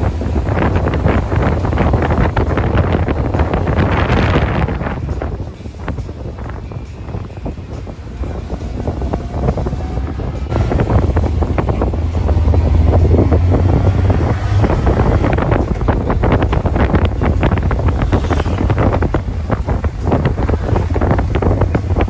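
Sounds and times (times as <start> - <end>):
motorcycle engine and road rumble: 0.0 - 22.0
wind buffeting microphone: 0.0 - 22.0.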